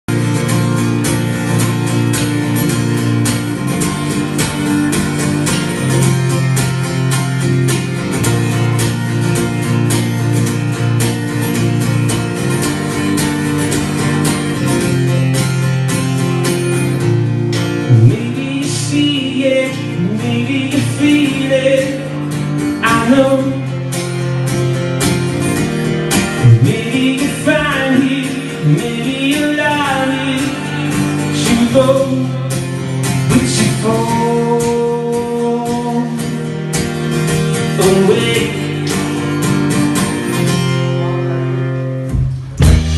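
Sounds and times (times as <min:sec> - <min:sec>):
sliding high guitar notes: 0:00.1 - 0:33.9, 0:34.6 - 0:42.9
guitar-led band music: 0:00.1 - 0:42.9.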